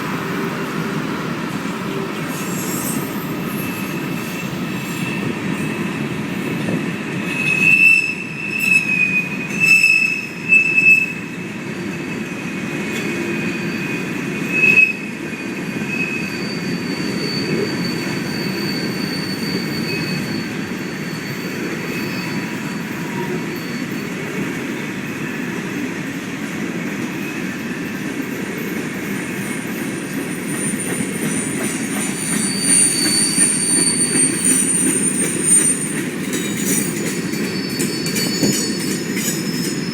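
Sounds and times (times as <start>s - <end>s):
train wheels rumbling on rail: 0.0s - 39.9s
high-pitched wheel squeal: 0.5s - 6.5s, 7.2s - 11.3s, 13.2s - 24.6s, 29.3s - 39.9s.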